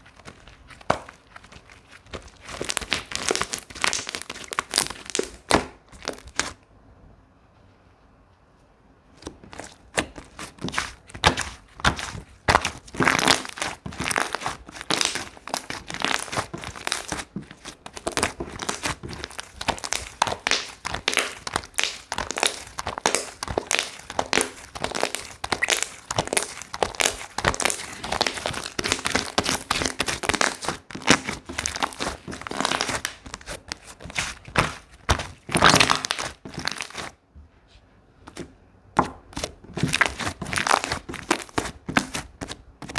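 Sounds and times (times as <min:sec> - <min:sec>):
slime clicking and crackling: 0:00.0 - 0:06.6, 0:09.2 - 0:37.2, 0:38.3 - 0:42.9.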